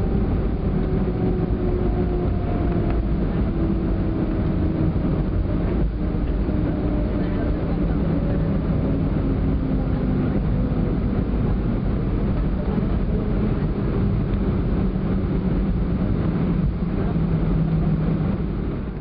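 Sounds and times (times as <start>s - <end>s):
jet engine hum in cabin: 0.0s - 19.0s.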